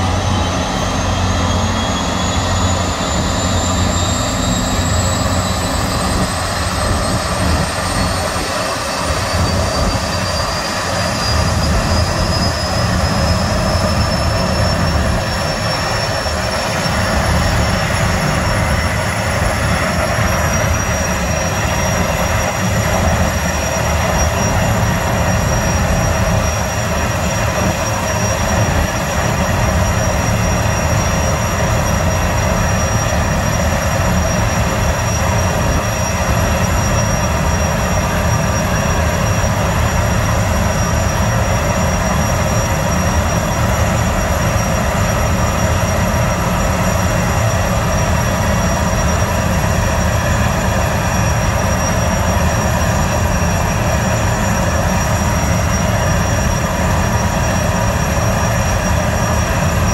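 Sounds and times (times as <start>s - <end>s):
gas turbines whining: 0.0s - 59.9s.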